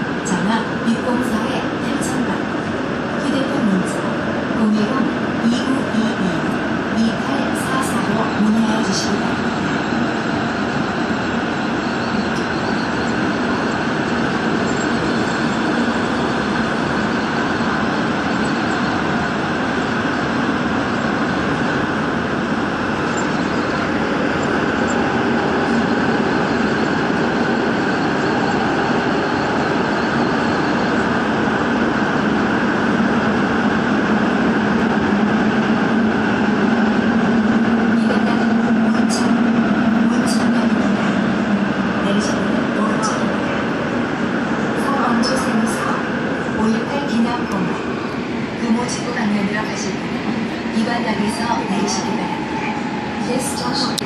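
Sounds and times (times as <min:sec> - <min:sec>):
subway train rumbling in tunnel: 0:00.0 - 0:54.0.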